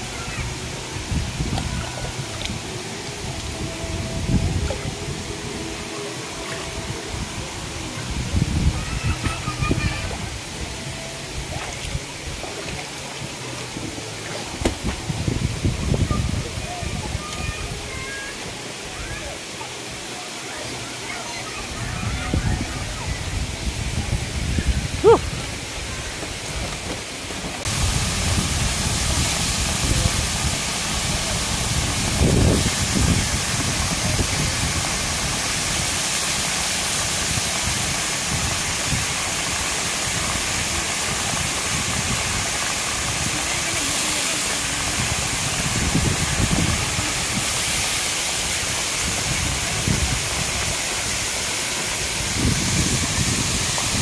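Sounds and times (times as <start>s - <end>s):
waterfall pouring onto rocks: 0.0s - 54.0s.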